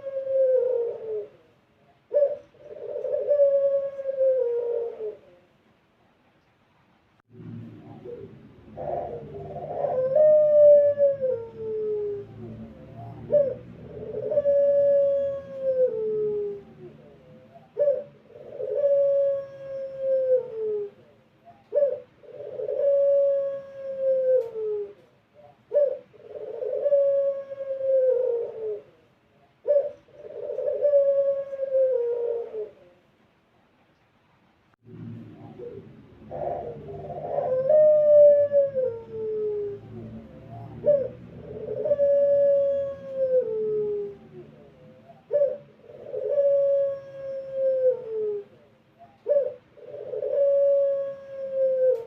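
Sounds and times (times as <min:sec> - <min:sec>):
dove cooing: 0:00.0 - 0:05.6, 0:07.4 - 0:33.1, 0:35.1 - 0:52.0.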